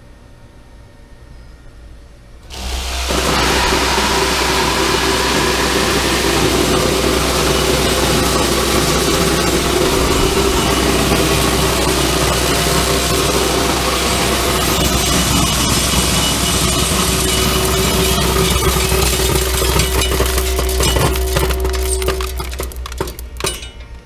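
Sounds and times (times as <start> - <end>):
sorting machine running: 2.5 - 24.0.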